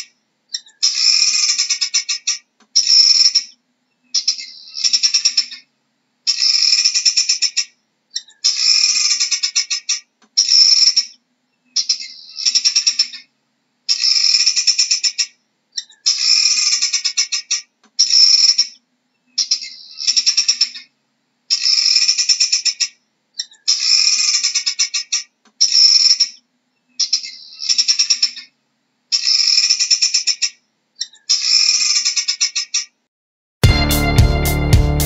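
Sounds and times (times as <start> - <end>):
guinea fowl rattling cackles: 0.0 - 3.5, 4.2 - 5.7, 6.3 - 11.2, 11.8 - 13.3, 13.9 - 18.8, 19.4 - 20.9, 21.5 - 26.4, 27.0 - 28.5, 29.1 - 32.9.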